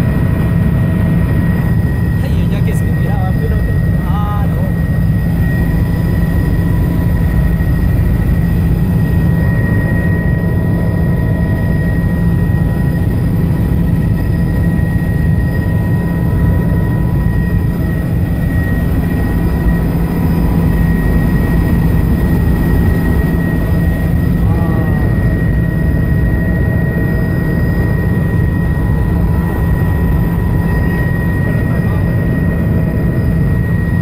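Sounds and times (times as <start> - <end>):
aircraft cabin engine drone: 0.0 - 34.0
faint steady whine: 0.0 - 34.0.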